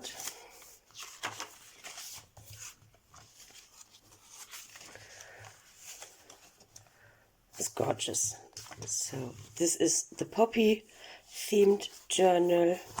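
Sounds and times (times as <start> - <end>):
paper rustling: 0.0 - 7.0, 8.5 - 9.6, 10.6 - 13.0.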